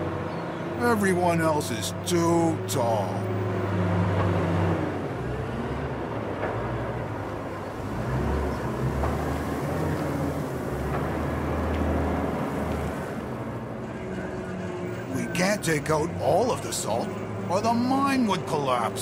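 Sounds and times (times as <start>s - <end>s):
diesel loader engine running: 0.0s - 19.0s.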